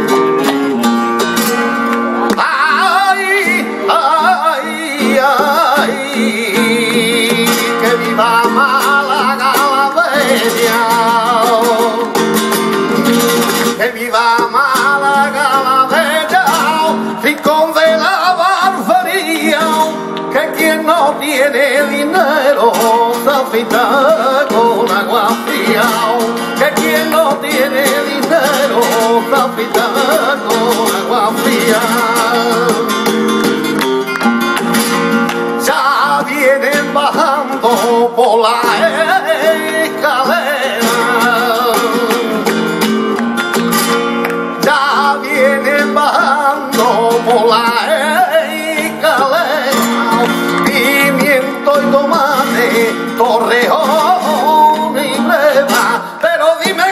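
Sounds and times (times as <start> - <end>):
flamenco guitar: 0.0 - 56.9
man singing: 1.2 - 33.5, 35.5 - 43.2, 44.4 - 56.9
hand clapping: 1.3 - 56.9.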